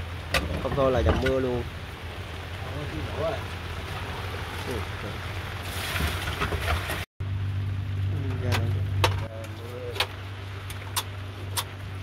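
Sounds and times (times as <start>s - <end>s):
rain hissing: 0.0s - 6.2s, 7.2s - 12.0s
boat engine humming: 0.0s - 12.0s.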